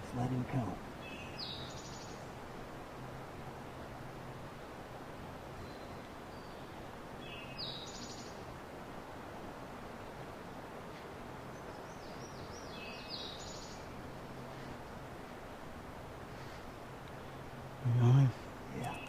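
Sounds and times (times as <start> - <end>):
outdoor background noise: 0.0 - 19.0
songbird singing: 0.0 - 19.0.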